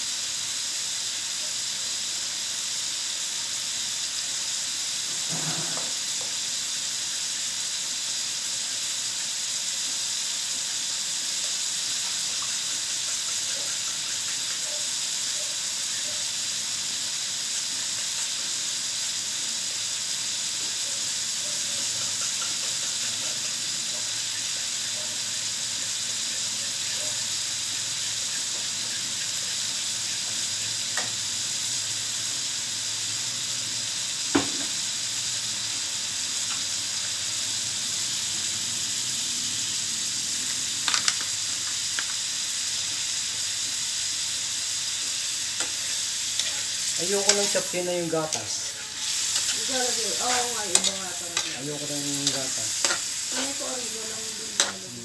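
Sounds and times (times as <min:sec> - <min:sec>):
meat sizzling in a wok: 0:00.0 - 0:55.0.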